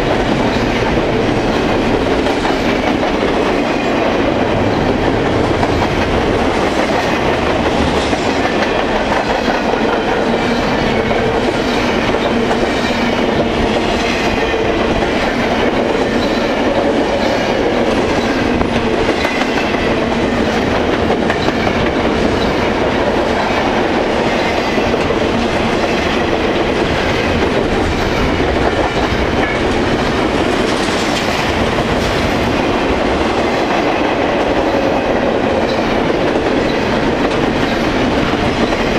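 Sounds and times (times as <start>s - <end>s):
freight train rolling past: 0.0s - 38.9s.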